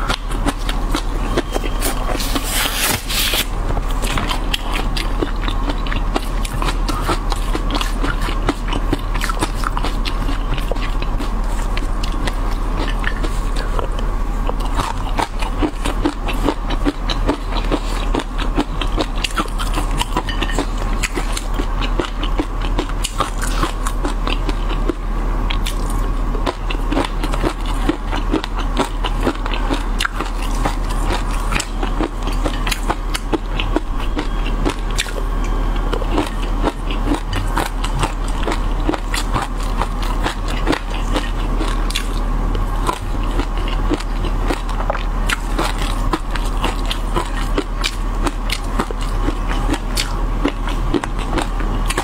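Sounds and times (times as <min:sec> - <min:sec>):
steady low hum: 0:00.0 - 0:52.0
wet crunchy chewing: 0:00.0 - 0:52.0.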